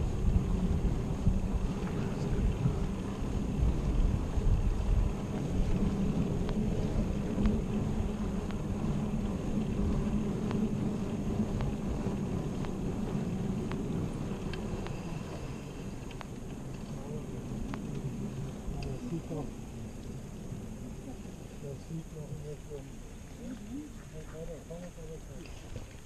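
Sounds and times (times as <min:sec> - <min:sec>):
faint ticking: 0:00.0 - 0:26.0
low road rumble: 0:00.0 - 0:26.0
wind buffeting microphone: 0:00.0 - 0:26.0.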